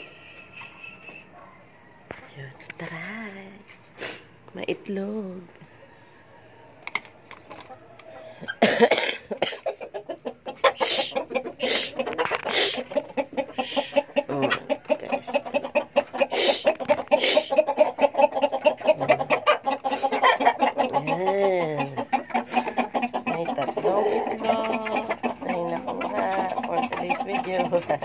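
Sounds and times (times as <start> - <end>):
hen clucking: 4.6 - 28.0.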